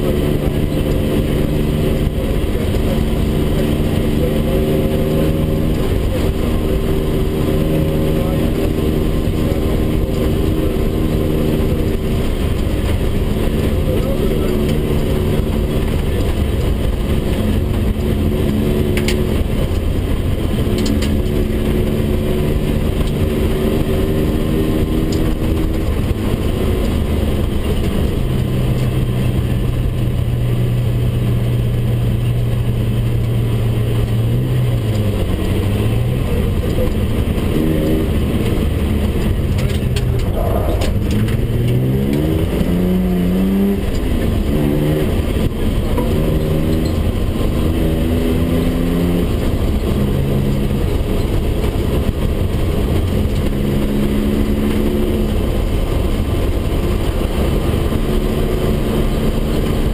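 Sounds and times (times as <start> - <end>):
car engine under load: 0.0 - 59.9
road and tyre rumble: 0.0 - 59.9.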